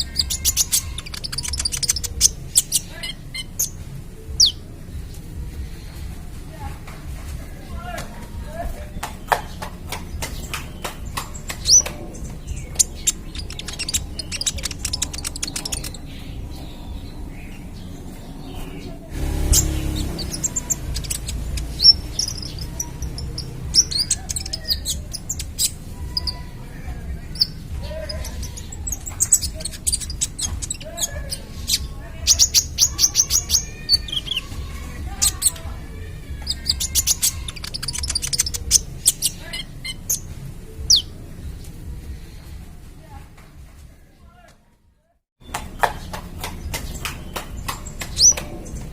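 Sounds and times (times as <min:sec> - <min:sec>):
sunbird chirping: 0:00.0 - 0:06.4, 0:09.2 - 0:42.6.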